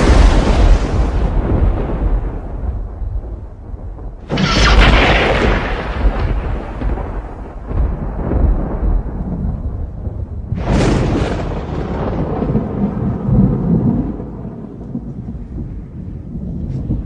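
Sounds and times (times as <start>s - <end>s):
thunder rumbling and cracking: 0.0s - 17.0s.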